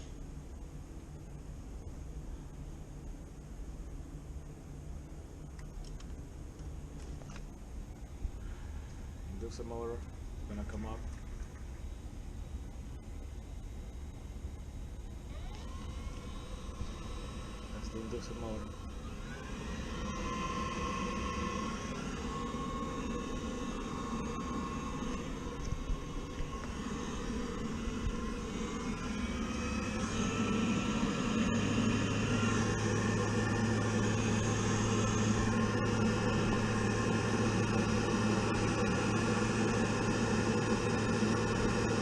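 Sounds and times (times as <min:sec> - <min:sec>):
boiler fan motor running: 0:00.0 - 0:42.0
steady low hum: 0:00.0 - 0:42.0.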